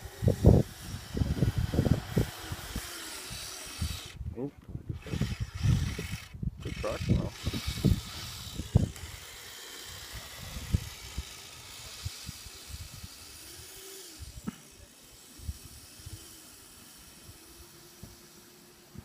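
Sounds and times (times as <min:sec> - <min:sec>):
toy snowcat motor hissing: 0:00.0 - 0:04.2, 0:04.9 - 0:19.0.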